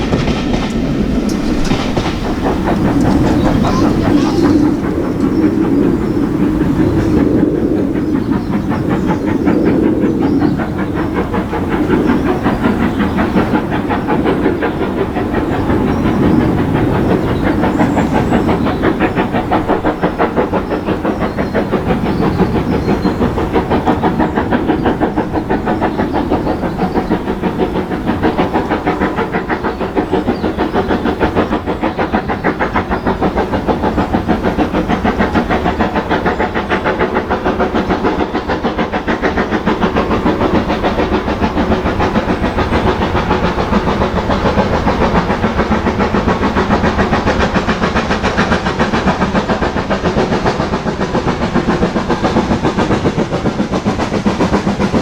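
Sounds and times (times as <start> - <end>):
steam hissing: 0.0 - 55.0
wheels beating on rails: 0.0 - 55.0.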